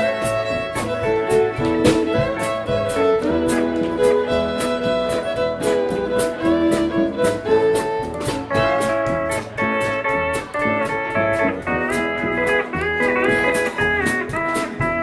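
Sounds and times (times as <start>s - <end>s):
bass: 0.0s - 15.0s
drums: 0.0s - 15.0s
fiddle: 0.0s - 15.0s
guitar: 0.0s - 15.0s
steel guitar: 0.0s - 15.0s.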